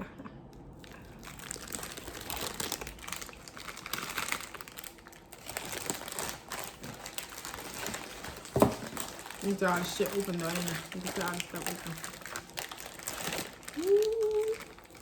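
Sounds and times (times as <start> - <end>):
plastic wrappers crinkling: 0.8 - 15.0.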